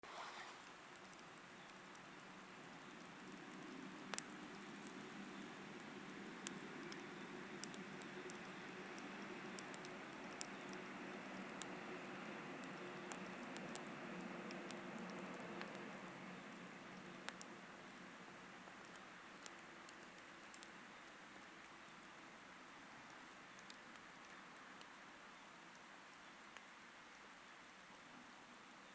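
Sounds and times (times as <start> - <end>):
campfire crackling and popping: 0.5 - 28.9.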